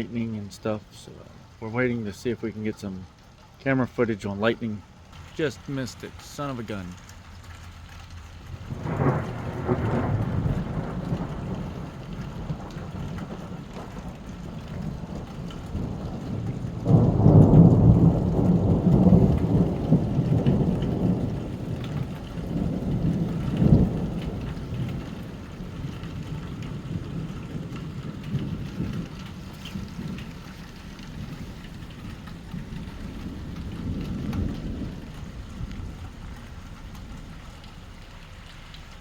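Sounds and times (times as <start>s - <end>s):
heavy rain: 0.0s - 39.0s
thunder rumbling: 0.0s - 39.0s.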